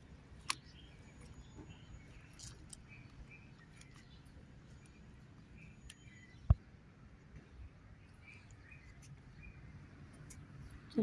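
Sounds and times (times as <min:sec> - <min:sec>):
bird chirps: 0:00.4 - 0:06.8, 0:07.4 - 0:11.0.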